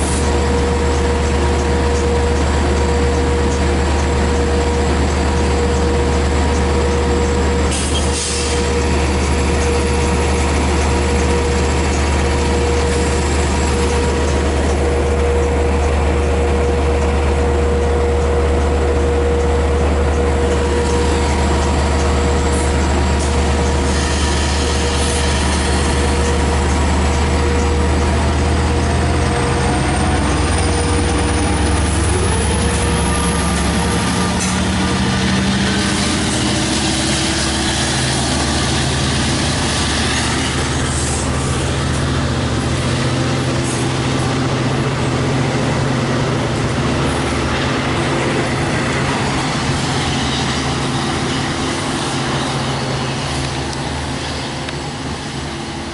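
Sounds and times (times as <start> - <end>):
diesel locomotive engine running: 0.0 - 55.9.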